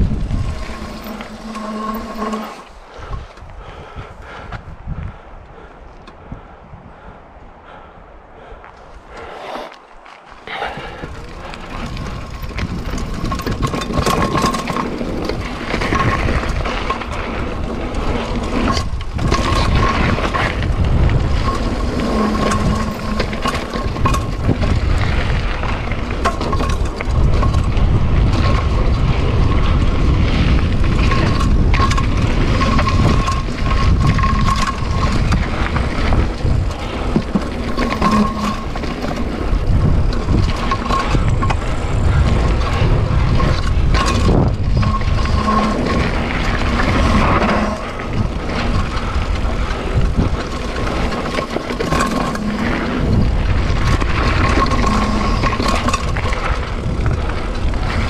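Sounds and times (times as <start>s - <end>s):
bike rattling and knocking: 0.0s - 4.4s, 10.5s - 58.0s
wind buffeting microphone: 0.0s - 58.0s.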